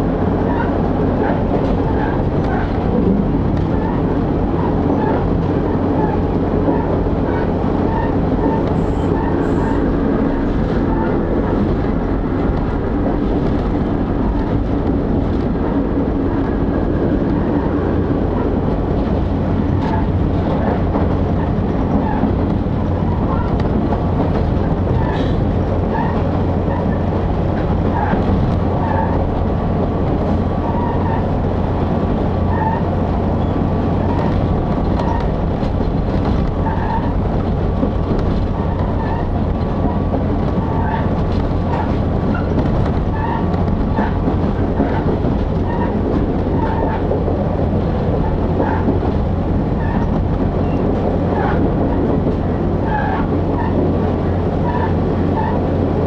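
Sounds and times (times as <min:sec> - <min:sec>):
train engine and wheels rumbling: 0:00.0 - 0:56.0.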